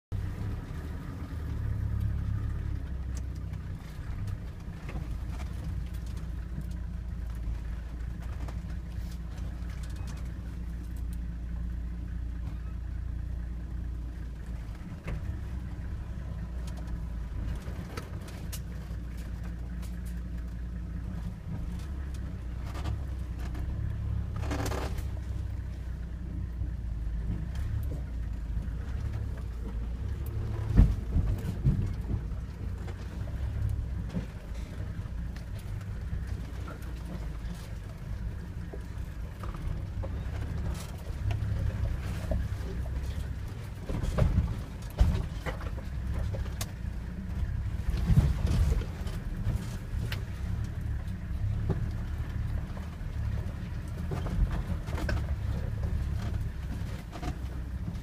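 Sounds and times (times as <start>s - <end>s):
engine low drone: 0.0s - 58.0s
vehicle body knocking and rattling: 0.1s - 58.0s.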